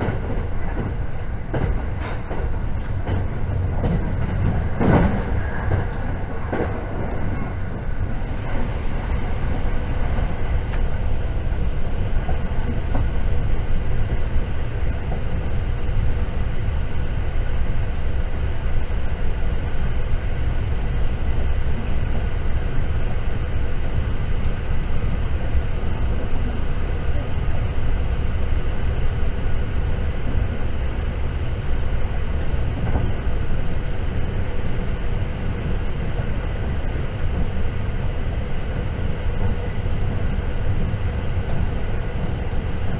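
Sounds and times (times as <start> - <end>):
train wheels rumbling on track: 0.0 - 42.9.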